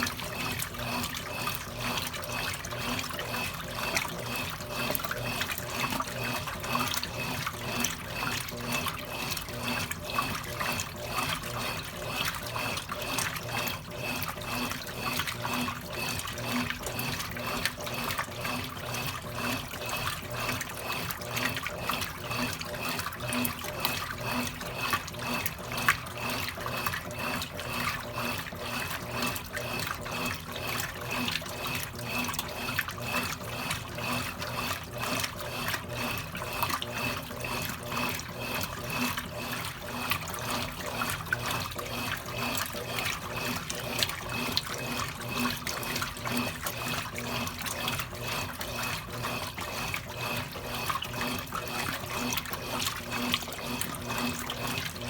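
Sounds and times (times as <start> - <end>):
washing machine water sloshing: 0.0 - 55.0.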